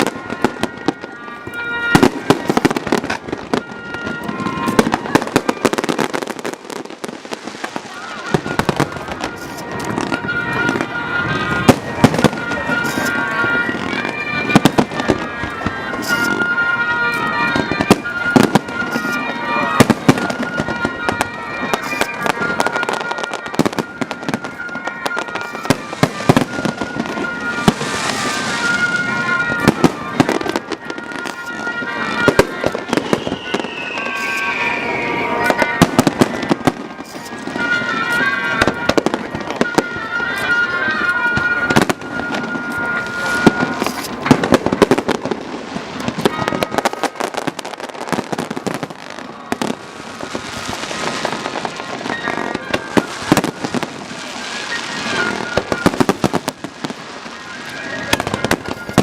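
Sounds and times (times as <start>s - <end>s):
firework whistle falling in pitch: 0.0s - 59.0s
fireworks bangs and crackles: 0.0s - 59.0s.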